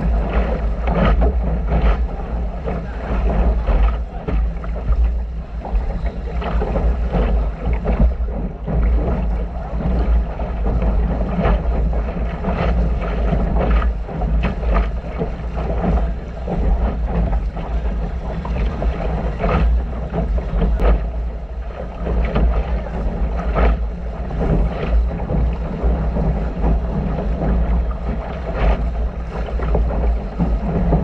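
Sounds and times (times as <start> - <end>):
water splashing along hull: 0.0 - 31.0
wind buffeting microphone: 0.0 - 31.0.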